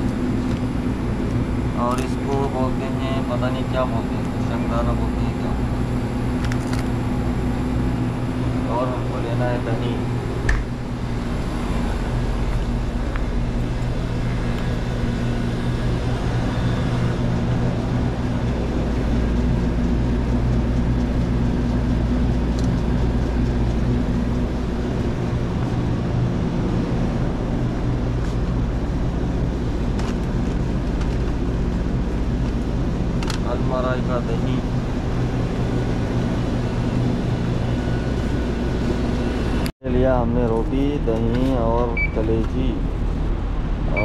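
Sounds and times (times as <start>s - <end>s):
refrigerator hum: 0.0s - 44.0s.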